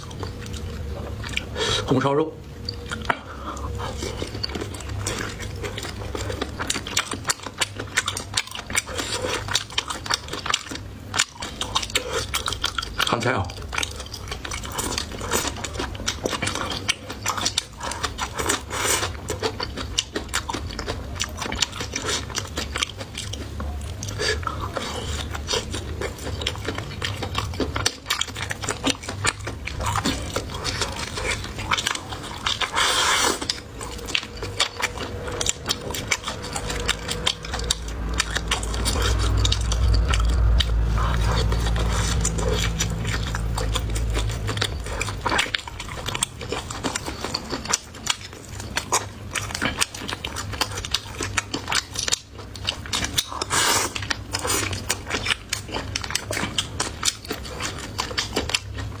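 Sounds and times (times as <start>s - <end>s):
chewing and crunching food: 0.0s - 59.0s
low steady hum: 0.0s - 59.0s.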